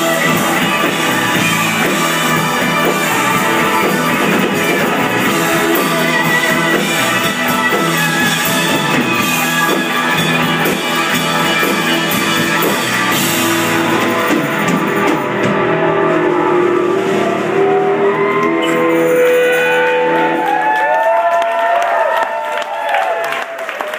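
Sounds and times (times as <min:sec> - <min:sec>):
live rock band playing: 0:00.0 - 0:21.3.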